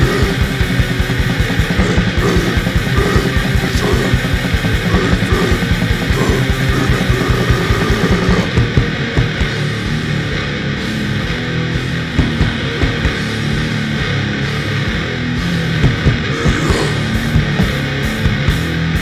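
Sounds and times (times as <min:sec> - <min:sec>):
fast bass drum hits: 0:00.0 - 0:10.4, 0:12.0 - 0:13.8, 0:15.6 - 0:18.7
distorted electric guitars riffing: 0:00.0 - 0:19.0.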